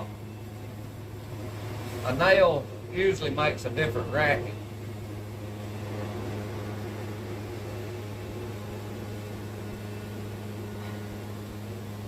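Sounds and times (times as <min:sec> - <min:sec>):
band sawmill droning: 0:00.0 - 0:12.0.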